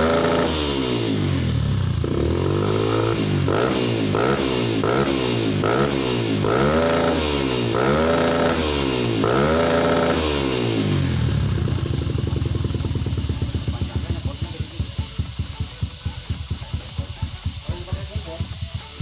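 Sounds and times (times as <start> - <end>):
motorcycle engine revving: 0.0 - 19.0
motorcycle idling: 0.0 - 19.0.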